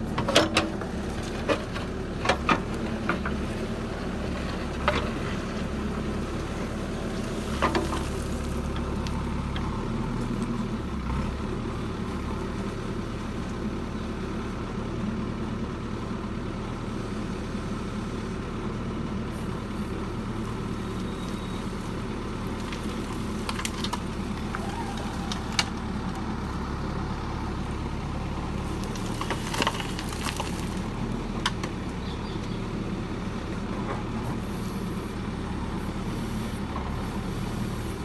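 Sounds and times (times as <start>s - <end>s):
diesel engine humming: 0.0s - 38.0s.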